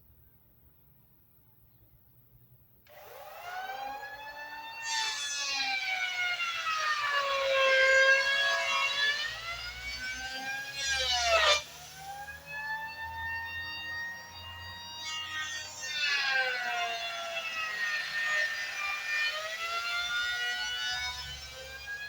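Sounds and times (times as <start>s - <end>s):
power tool cutting timber: 2.9s - 22.0s.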